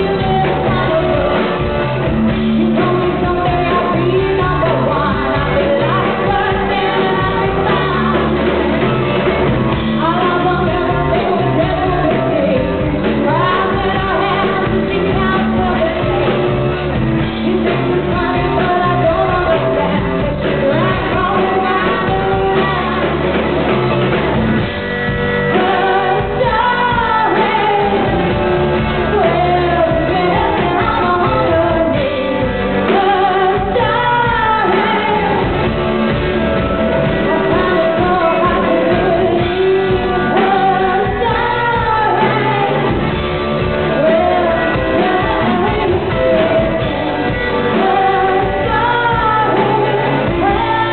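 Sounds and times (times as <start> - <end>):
person singing: 0.0 - 23.7, 25.5 - 35.8, 36.6 - 50.9
band playing live: 0.0 - 50.9.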